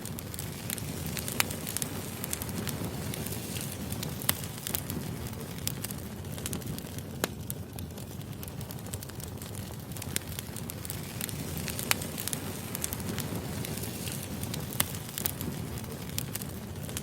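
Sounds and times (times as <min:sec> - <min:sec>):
fire low rush: 0:00.0 - 0:17.0
firewood crackling and popping: 0:00.0 - 0:17.0.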